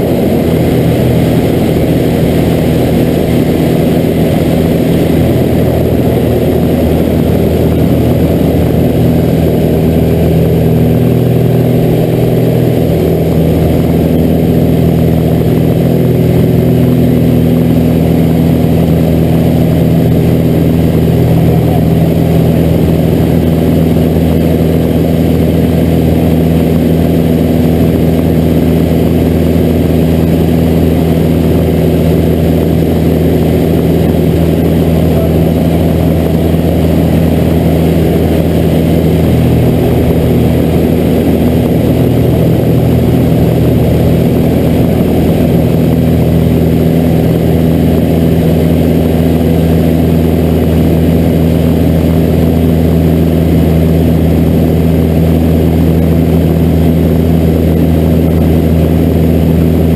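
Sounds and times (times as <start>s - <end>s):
propeller plane engine running: 0.0s - 59.9s.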